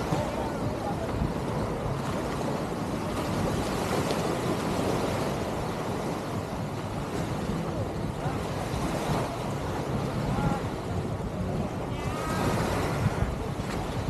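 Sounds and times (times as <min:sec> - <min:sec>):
small waves breaking on sand: 0:00.0 - 0:14.0
wind noise on microphone: 0:00.0 - 0:14.0.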